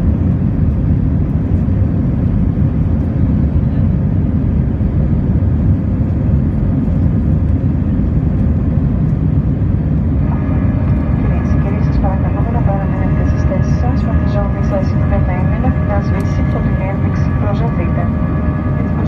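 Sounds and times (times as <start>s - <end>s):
jet engine and airflow noise: 0.0s - 19.0s.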